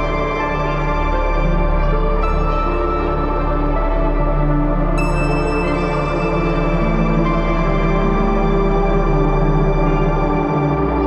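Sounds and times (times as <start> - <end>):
ambient music of sustained tones: 0.0 - 11.0.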